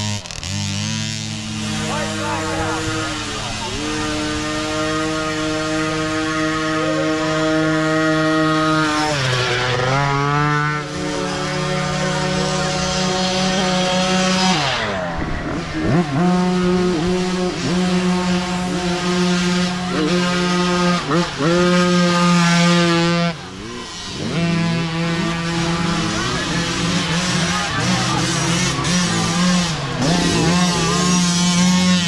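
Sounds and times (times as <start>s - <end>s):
dirt bike engines buzzing: 0.0s - 32.0s.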